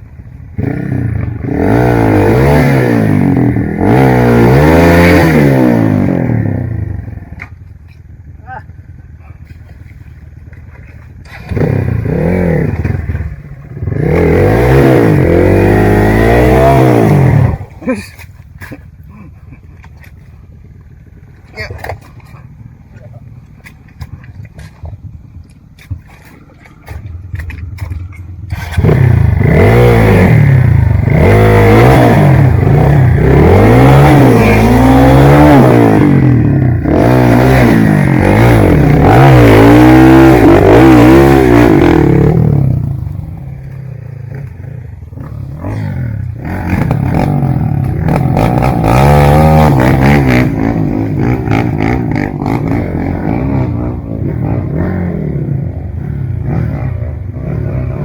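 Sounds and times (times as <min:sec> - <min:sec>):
motorcycle engine revving: 0:00.0 - 0:09.6, 0:10.6 - 0:18.0, 0:26.8 - 0:58.0.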